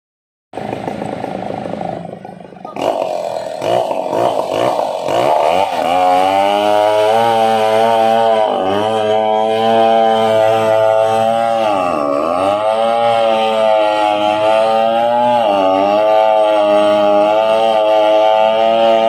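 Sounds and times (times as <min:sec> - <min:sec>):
chainsaw cutting wood: 0:00.6 - 0:19.0.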